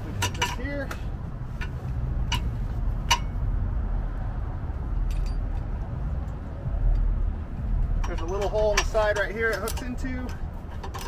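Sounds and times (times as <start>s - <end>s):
low rumble: 1.1s - 10.8s.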